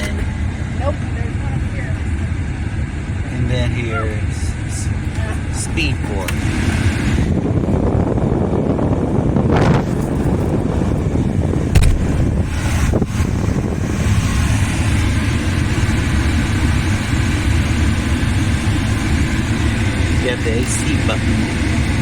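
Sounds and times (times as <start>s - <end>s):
blower fan rushing air: 0.0s - 22.0s
engine idling hum: 0.0s - 22.0s.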